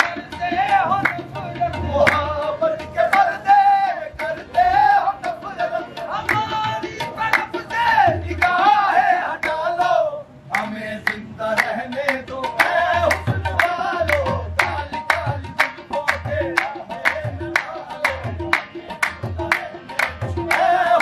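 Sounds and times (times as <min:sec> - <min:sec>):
rhythmic hand clapping: 0:00.0 - 0:09.9, 0:10.5 - 0:21.0
harmonium: 0:00.0 - 0:21.0
people singing: 0:00.0 - 0:21.0.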